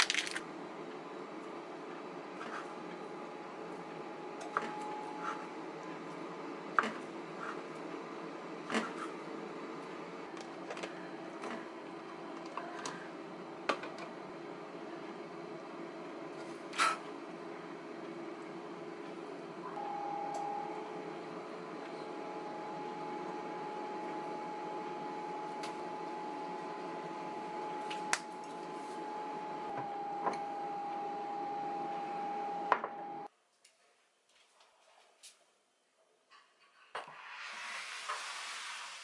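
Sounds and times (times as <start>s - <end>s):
kitchen appliance humming: 0.0s - 33.3s.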